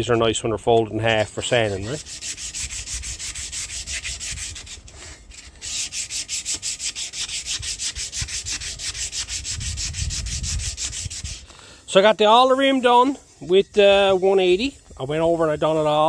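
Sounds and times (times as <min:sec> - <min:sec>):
sandpaper scratching on metal: 0:01.1 - 0:16.0.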